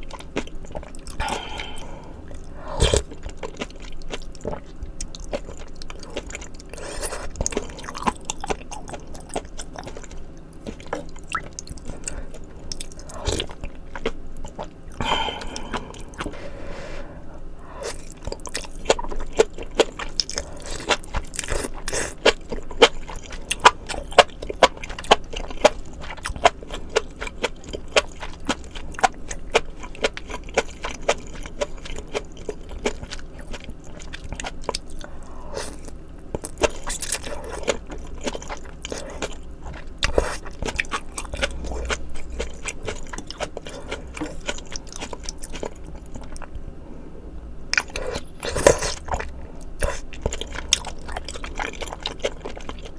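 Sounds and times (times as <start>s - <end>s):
wet chewing: 0.0s - 16.7s, 17.7s - 46.5s, 47.8s - 52.9s.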